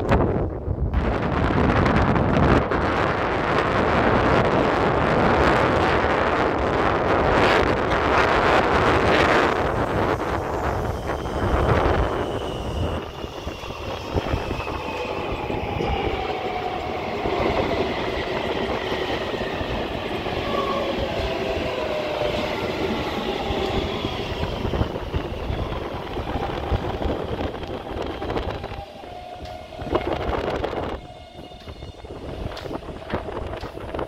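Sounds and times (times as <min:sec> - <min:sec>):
electric train inverter whining: 0:04.8 - 0:34.0.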